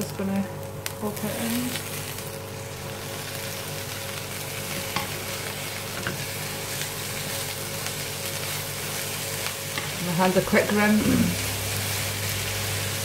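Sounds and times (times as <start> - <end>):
mince sizzling in a frying pan: 0.0 - 13.0.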